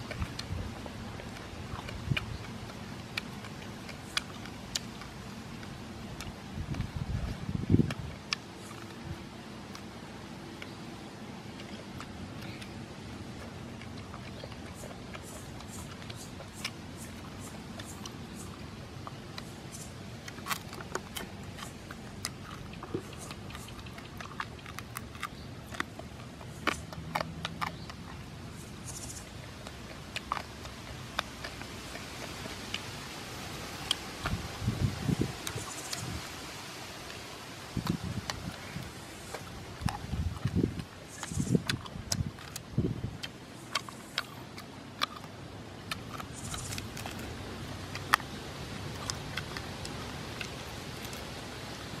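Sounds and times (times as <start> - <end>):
outdoor background noise: 0.0 - 52.0.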